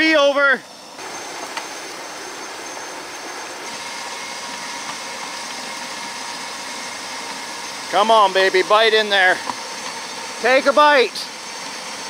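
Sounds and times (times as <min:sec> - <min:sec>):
faint high electric motor whine: 0:00.0 - 0:12.0
tires churning water spray: 0:00.9 - 0:12.0.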